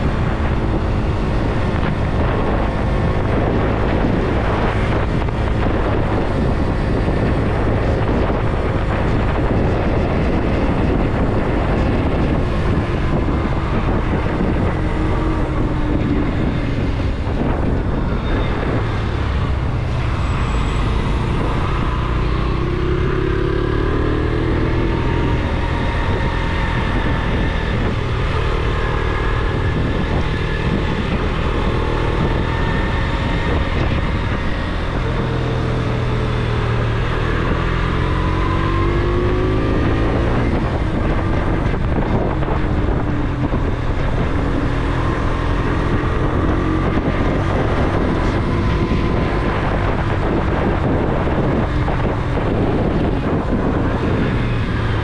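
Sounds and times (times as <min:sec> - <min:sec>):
motorcycle engine accelerating: 0:00.0 - 0:55.0
wind on microphone: 0:00.0 - 0:55.0.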